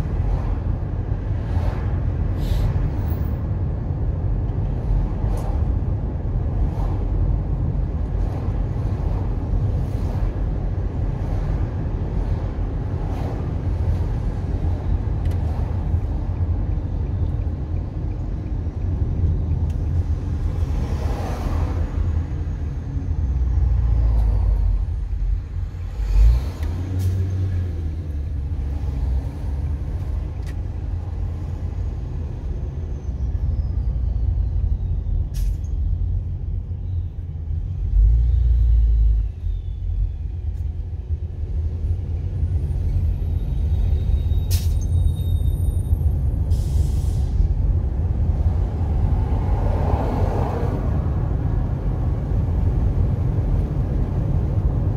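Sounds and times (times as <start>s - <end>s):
car engine and tyre rumble: 0.0s - 54.9s.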